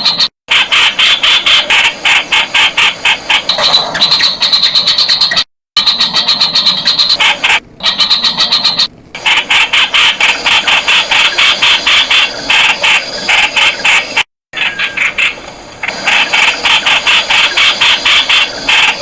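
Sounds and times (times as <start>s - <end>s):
bird giving harsh repeated calls: 0.0s - 19.0s.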